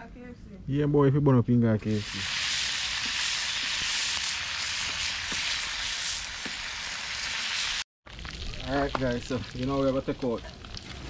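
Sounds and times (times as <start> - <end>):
chicken sizzling in oil: 2.0 - 11.0.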